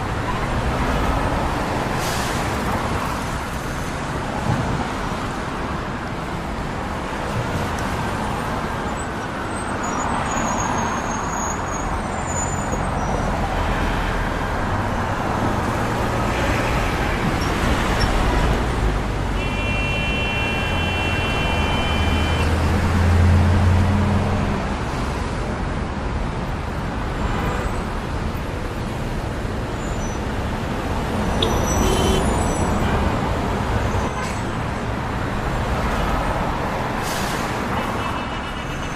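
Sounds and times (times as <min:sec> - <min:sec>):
passing cars and engines: 0:00.0 - 0:38.9.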